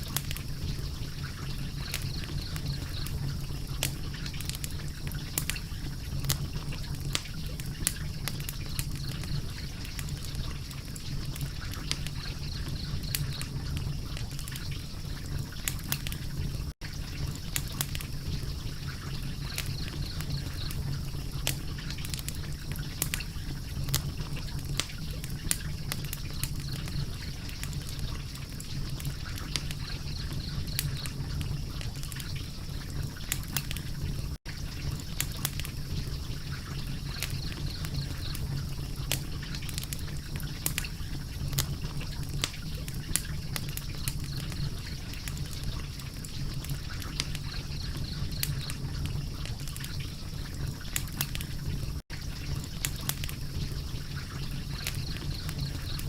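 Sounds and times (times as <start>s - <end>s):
fire popping and snapping: 0.0s - 56.0s
wood fire crackling: 0.0s - 56.0s.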